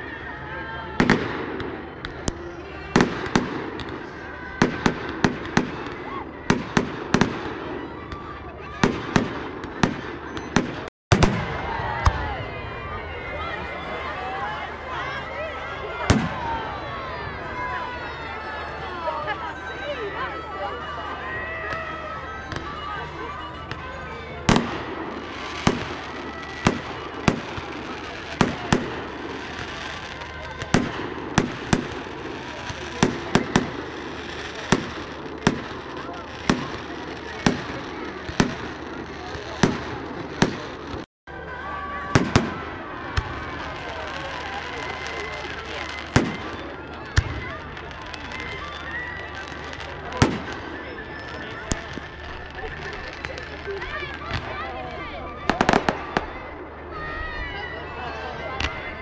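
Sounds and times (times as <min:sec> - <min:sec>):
background hubbub: 0:00.0 - 0:59.0
voices: 0:00.0 - 0:59.0.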